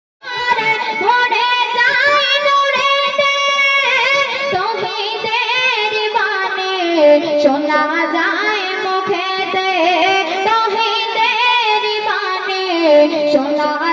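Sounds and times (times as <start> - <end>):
girl singing into a microphone: 0.2 - 13.9.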